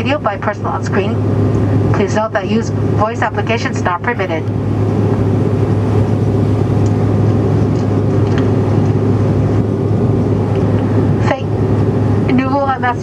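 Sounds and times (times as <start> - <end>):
jet cabin drone: 0.0 - 13.0.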